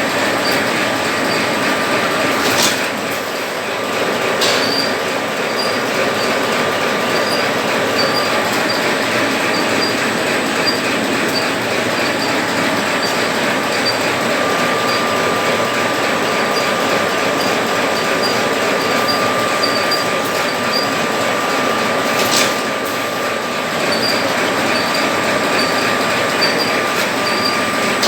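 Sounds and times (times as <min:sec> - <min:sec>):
packaging machine running: 0:00.0 - 0:28.0.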